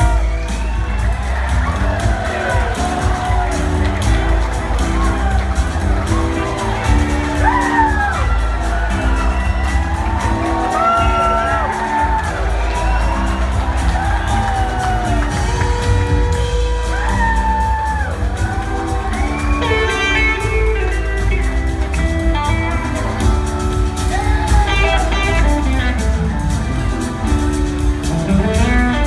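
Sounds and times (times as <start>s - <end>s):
live blues-rock band playing: 0.0s - 29.0s
electric guitar lead: 1.4s - 29.0s.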